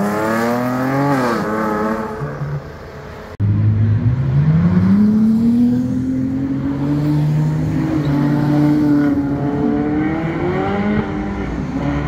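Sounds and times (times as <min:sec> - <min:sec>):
sports car engines accelerating: 0:00.0 - 0:12.0.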